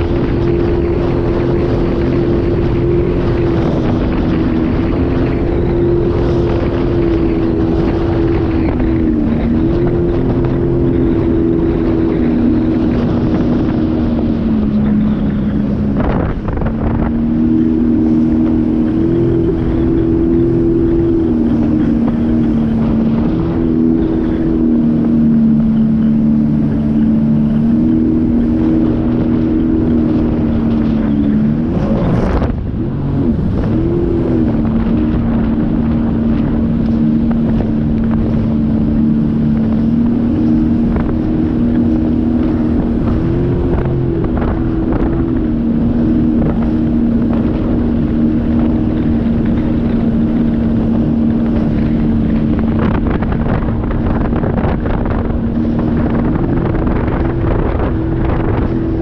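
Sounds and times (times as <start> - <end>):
watercraft engine running: 0.0 - 59.0
wind buffeting microphone: 0.0 - 59.0.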